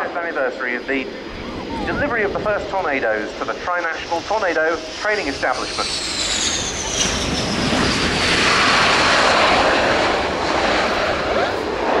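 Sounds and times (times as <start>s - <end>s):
jet landing and passing: 0.0s - 12.0s.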